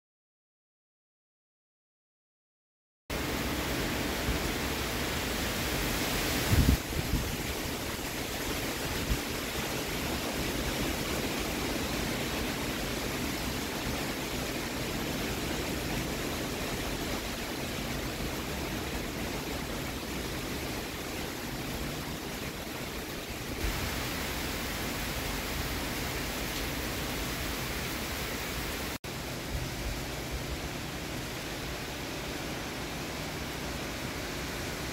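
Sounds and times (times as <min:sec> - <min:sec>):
heavy rain on trees and pavement: 0:03.1 - 0:34.9
wind: 0:03.1 - 0:34.9.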